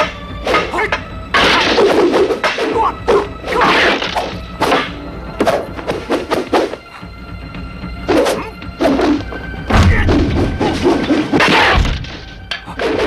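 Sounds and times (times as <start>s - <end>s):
film music score: 0.0s - 13.0s.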